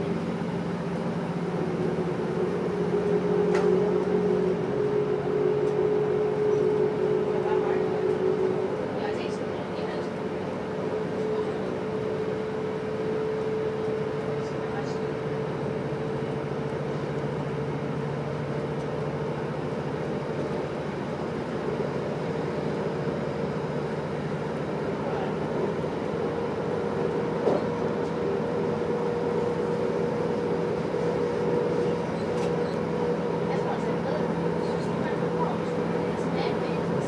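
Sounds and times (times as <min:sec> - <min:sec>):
diesel train rumble and drone: 0:00.0 - 0:37.0.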